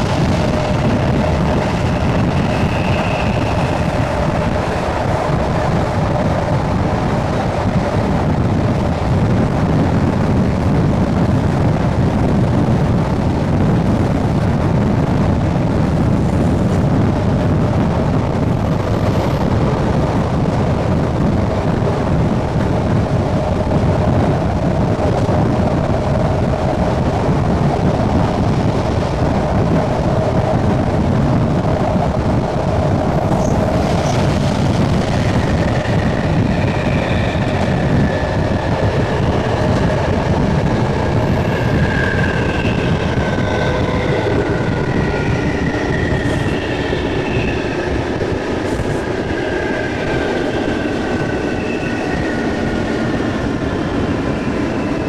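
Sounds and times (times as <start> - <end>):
train rumbling on rails: 0.0 - 55.0
wind buffeting microphone: 0.0 - 55.0.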